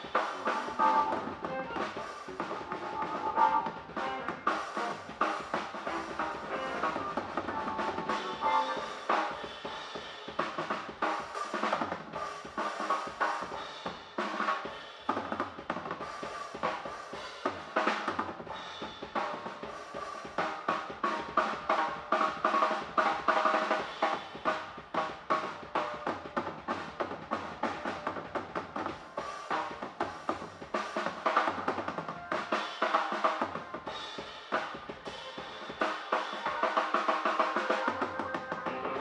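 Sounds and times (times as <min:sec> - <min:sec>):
drum kit beat: 0:00.0 - 0:39.0
electric guitar: 0:00.0 - 0:39.0
keyboards: 0:00.0 - 0:39.0.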